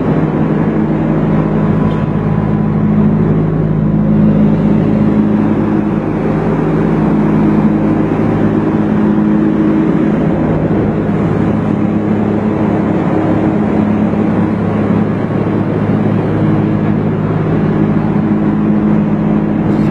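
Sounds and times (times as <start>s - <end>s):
generator engine humming: 0.0s - 19.9s.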